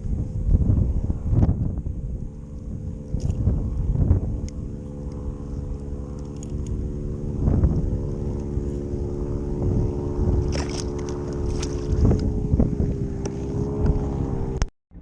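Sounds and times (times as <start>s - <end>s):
boat engine running: 0.0s - 15.0s
wind rumbling on microphone: 0.0s - 15.0s.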